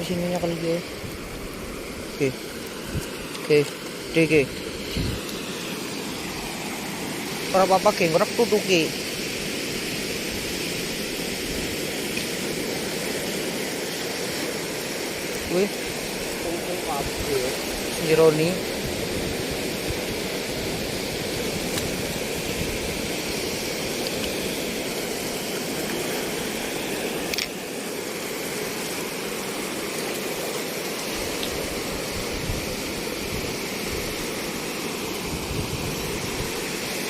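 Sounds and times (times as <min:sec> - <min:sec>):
sea surf rushing: 0:00.0 - 0:37.0.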